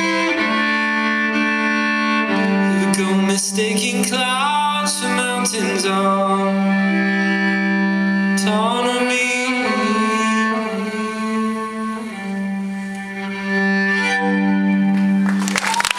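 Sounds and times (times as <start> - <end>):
bowed string notes: 0.0 - 15.6.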